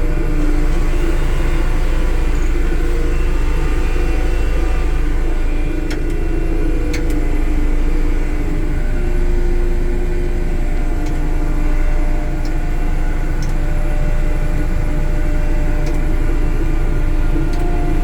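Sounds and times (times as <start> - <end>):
diesel engine drone: 0.0 - 18.0.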